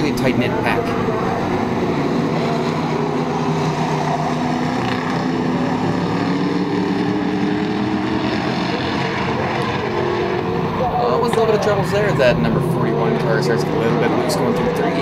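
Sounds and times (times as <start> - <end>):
race car engines: 0.0 - 15.0.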